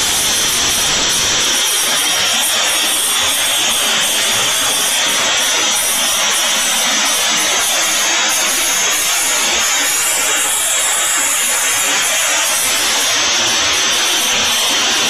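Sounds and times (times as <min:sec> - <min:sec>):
router spindle whining while cutting: 0:00.0 - 0:15.0.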